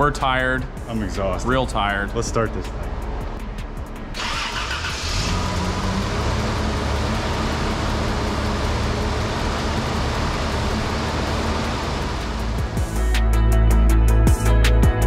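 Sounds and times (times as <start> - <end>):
car engine starting and idling: 0.1 - 13.8.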